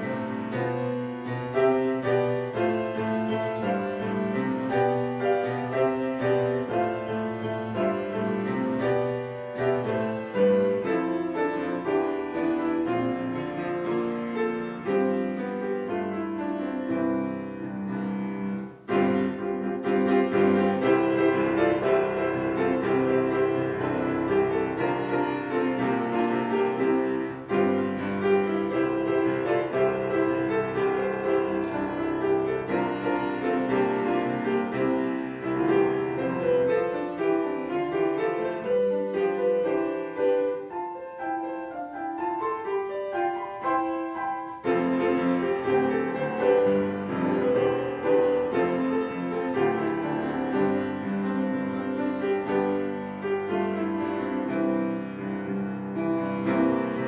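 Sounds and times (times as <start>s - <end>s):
solo grand piano piece: 0.0s - 57.0s.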